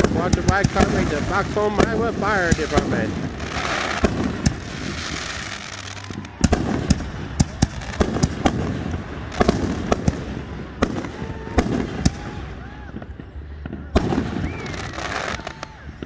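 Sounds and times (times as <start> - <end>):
crackling hiss: 0.0 - 16.0
fireworks bangs: 0.0 - 16.0.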